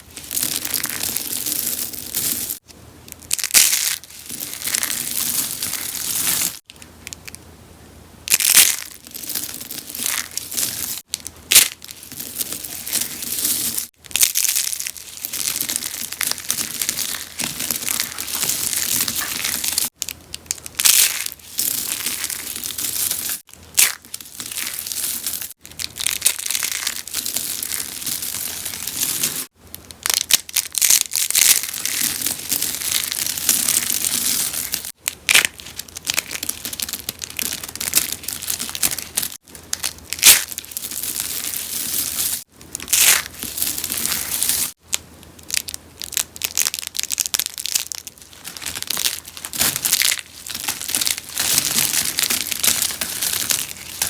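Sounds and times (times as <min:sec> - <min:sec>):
soap crunching and crackling: 0:00.0 - 0:02.6, 0:03.2 - 0:07.4, 0:08.3 - 0:54.0.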